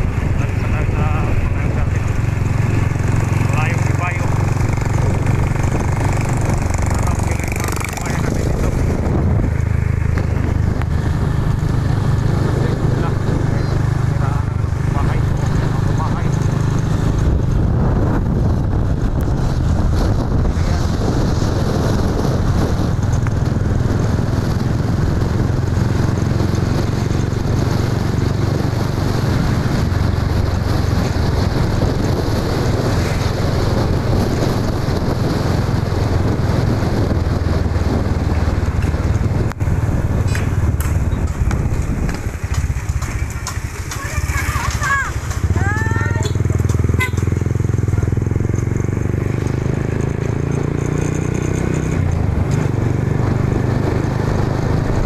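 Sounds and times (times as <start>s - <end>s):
motorcycle engine rumbling: 0.0s - 55.0s
wind rushing on microphone: 0.0s - 55.0s.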